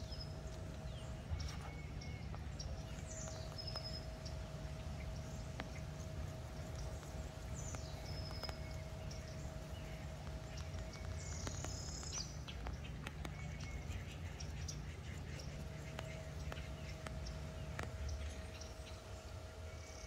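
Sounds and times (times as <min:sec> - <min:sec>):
light scattered ticks: 0:00.0 - 0:20.0
small birds chirping: 0:00.0 - 0:20.0
steady low hum: 0:00.0 - 0:20.0
thin steady whine: 0:00.0 - 0:20.0.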